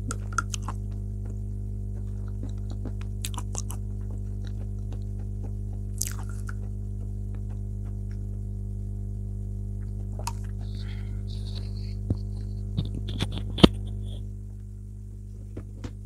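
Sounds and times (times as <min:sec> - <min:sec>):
soft chewing mouth sounds: 0:00.0 - 0:09.0, 0:09.8 - 0:14.2
low electrical hum: 0:00.0 - 0:16.0.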